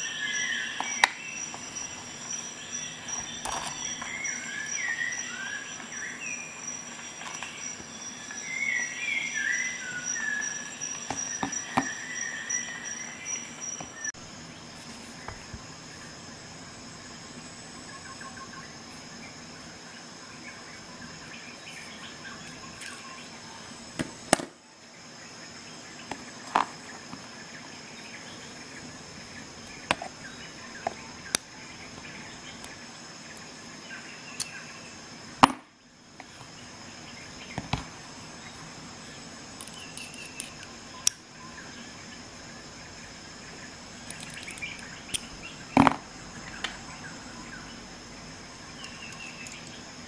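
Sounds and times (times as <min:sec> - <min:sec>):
high-pitched background whine: 0:00.0 - 0:50.0.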